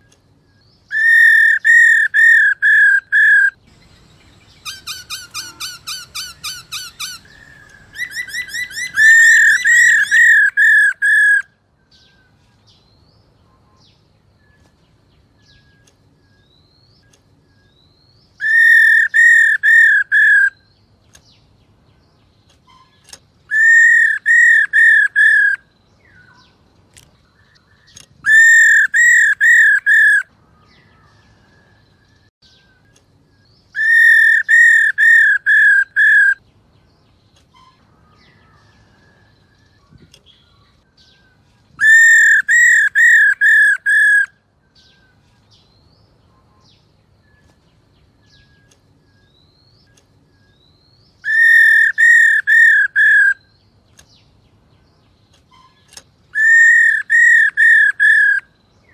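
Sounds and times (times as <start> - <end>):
bird whistled song: 0.0 - 21.5, 22.6 - 26.6, 27.3 - 36.5, 37.4 - 54.3, 55.0 - 58.9.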